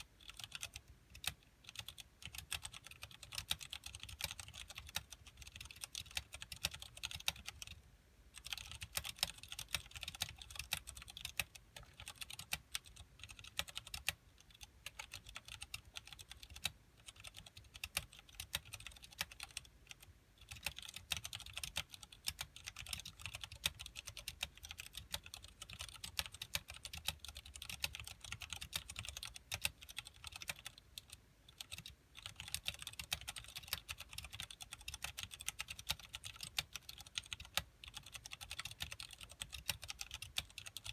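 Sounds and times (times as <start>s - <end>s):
fast typing on mechanical keyboard: 0.1s - 7.8s, 8.4s - 40.9s.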